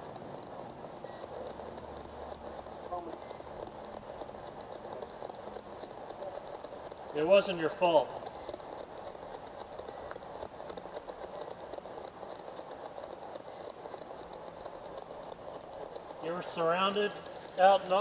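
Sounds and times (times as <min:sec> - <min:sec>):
radio static hiss: 0:00.0 - 0:18.0
rapid even ticking: 0:00.0 - 0:18.0.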